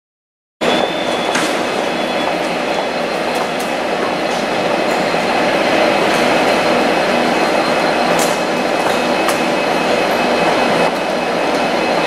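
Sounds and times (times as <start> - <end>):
high wheel squeal: 0.6 - 12.0
train wheel and rail noise: 0.6 - 12.0.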